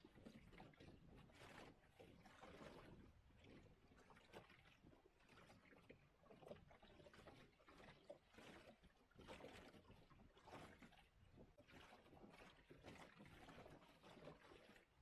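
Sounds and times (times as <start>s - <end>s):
water gurgling against hull: 0.1s - 15.0s.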